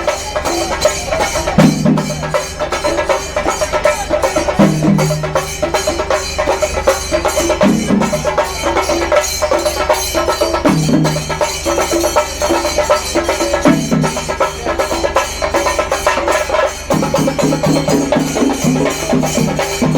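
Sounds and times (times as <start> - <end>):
music with fast drumming: 0.0 - 19.9.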